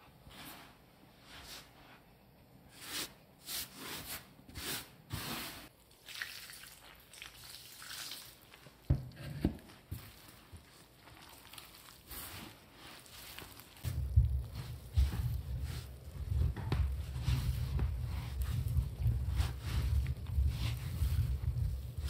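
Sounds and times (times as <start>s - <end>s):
hands kneading bread dough: 0.0s - 22.0s.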